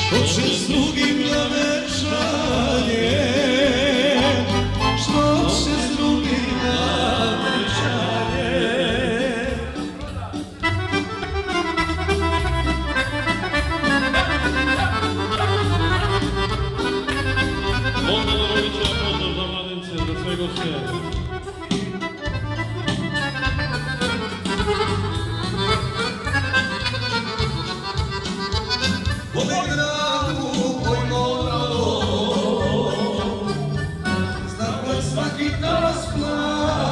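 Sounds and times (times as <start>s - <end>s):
keyboard folk dance music: 0.0s - 36.9s.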